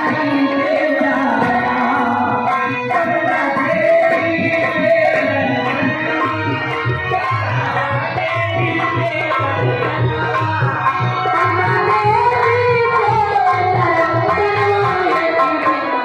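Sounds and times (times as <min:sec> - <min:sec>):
drum beating steady rhythm: 0:00.0 - 0:16.0
folk music: 0:00.0 - 0:16.0.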